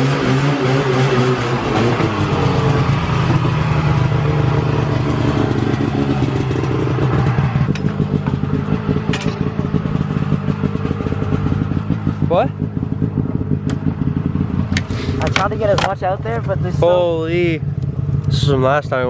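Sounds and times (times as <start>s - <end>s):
small vehicle engine idling: 1.5s - 19.0s.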